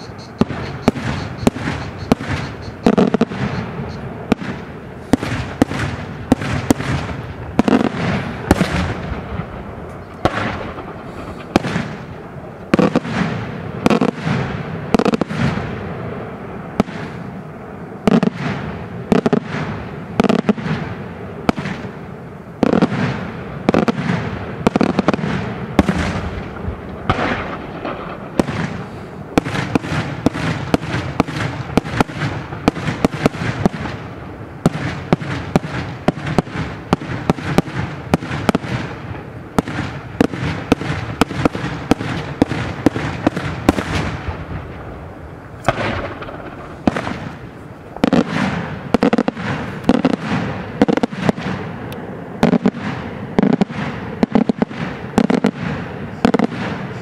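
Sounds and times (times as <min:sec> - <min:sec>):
fireworks bursting: 0:00.0 - 0:57.0
rumbling echo: 0:00.4 - 0:35.6, 0:38.7 - 0:57.0.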